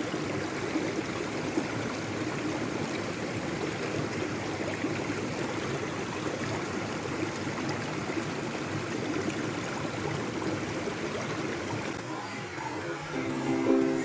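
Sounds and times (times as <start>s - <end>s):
stream running over rocks: 0.0s - 14.0s.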